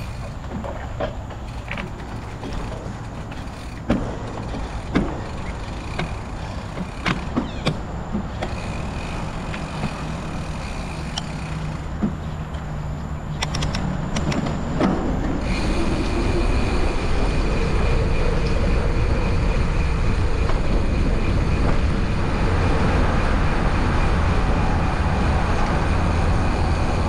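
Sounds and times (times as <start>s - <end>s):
bike rattling over bumps: 0.0s - 27.0s
bike tyres rumbling: 0.0s - 27.0s
wind: 0.0s - 27.0s.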